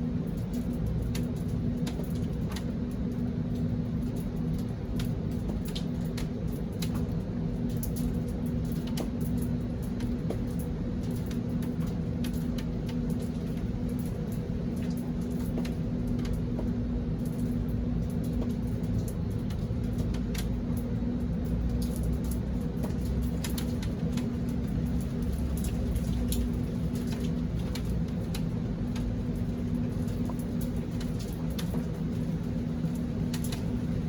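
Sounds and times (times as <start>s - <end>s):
low machine hum: 0.0s - 34.0s
raindrops ticking: 0.1s - 34.0s.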